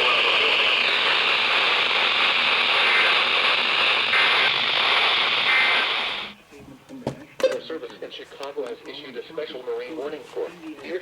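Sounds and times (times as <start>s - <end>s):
radio static hiss: 0.0s - 6.9s, 7.6s - 11.0s.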